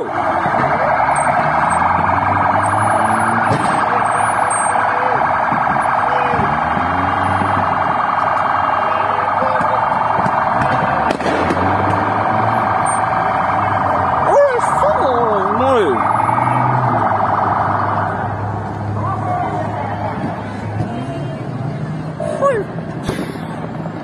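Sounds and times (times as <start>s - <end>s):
police sirens wailing: 0.0s - 24.0s.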